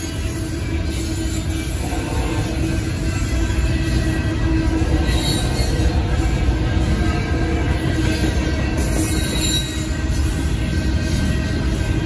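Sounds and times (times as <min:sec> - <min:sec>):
railroad crossing bells ringing: 0:00.0 - 0:12.0
train cars rumbling past: 0:00.0 - 0:12.0.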